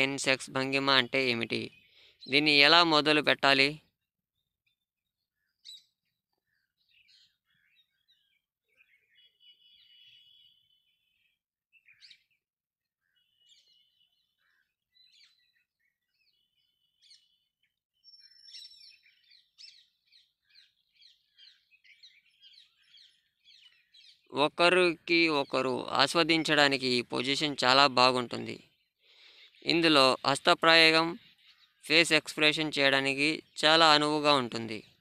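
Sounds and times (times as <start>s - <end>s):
faint birds chirping: 0.0s - 35.0s.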